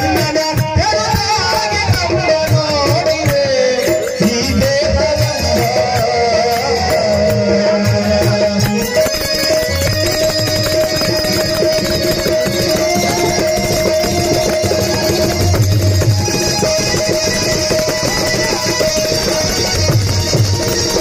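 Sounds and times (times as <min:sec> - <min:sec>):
harmonium reed notes: 0:00.0 - 0:21.0.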